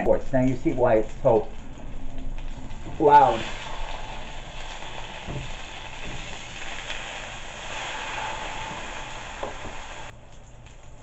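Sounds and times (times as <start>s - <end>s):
kitchen fan rushing and humming: 0.0s - 11.0s
steak sizzling in a pan: 0.6s - 10.1s.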